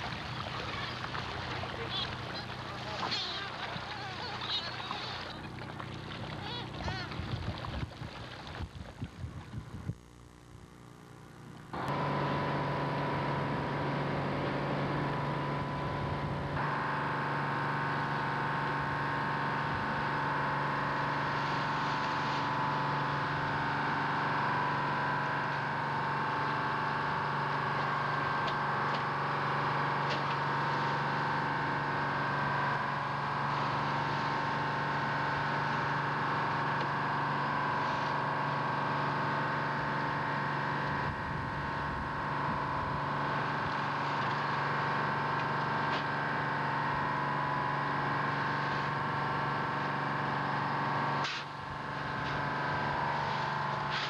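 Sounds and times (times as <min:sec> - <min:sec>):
boat engine running: 0:00.0 - 0:54.0
high whine: 0:00.0 - 0:54.0.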